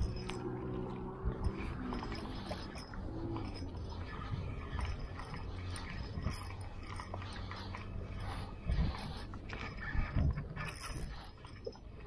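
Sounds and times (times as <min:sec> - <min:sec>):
fishing reel clicks and clinks: 0:00.0 - 0:12.0.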